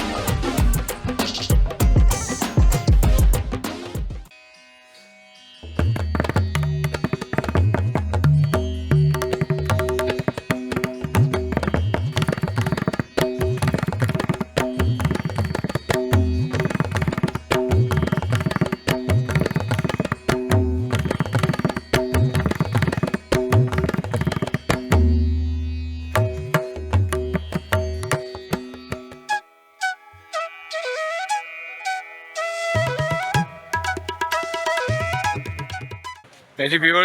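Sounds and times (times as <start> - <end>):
fast tabla drumming: 0.0 - 4.3, 5.8 - 29.4, 32.8 - 36.2.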